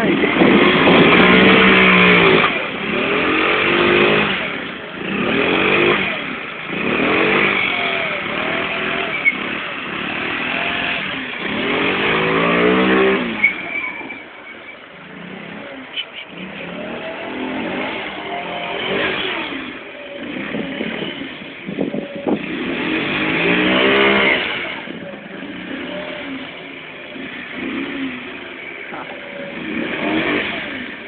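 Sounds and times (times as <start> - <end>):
scooter engine revving: 0.0 - 31.0.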